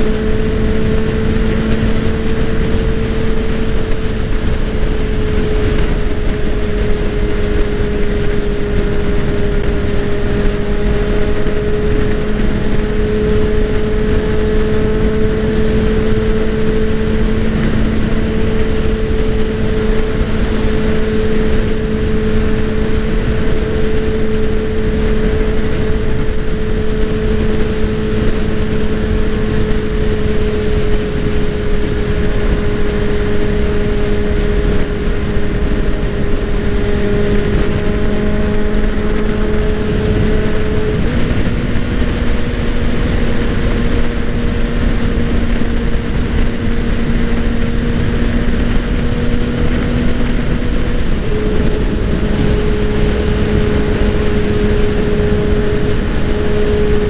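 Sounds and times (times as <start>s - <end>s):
motorcycle engine cruising: 0.0s - 57.0s
wind rushing: 0.0s - 57.0s.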